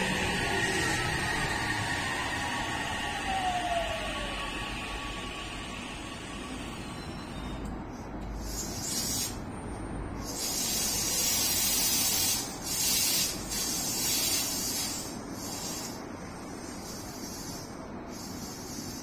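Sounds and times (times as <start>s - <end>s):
compressed air hissing: 0.0s - 19.0s
train low hum: 0.0s - 19.0s.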